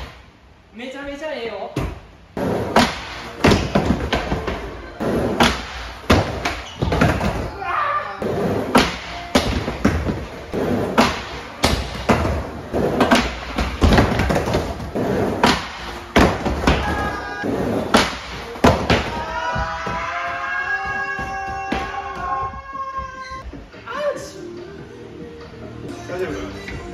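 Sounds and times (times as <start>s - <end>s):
background music: 2.4s - 26.9s.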